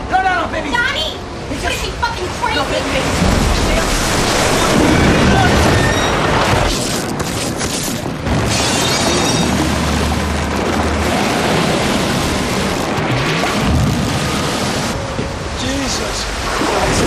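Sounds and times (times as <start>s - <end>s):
heavy waves pounding a boat: 0.0s - 17.0s
seawater rushing and sloshing: 0.0s - 17.0s.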